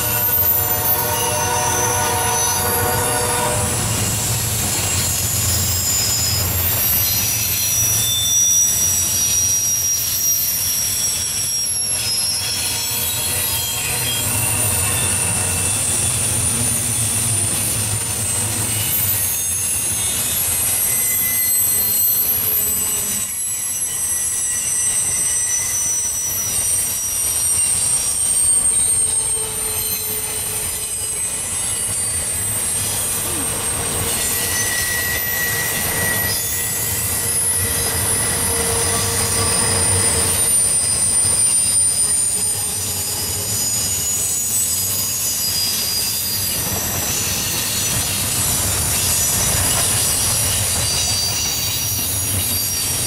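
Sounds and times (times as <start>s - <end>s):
high-pitched wheel squeal: 0.0s - 53.0s
steel wheels rumbling on rail: 0.0s - 53.0s.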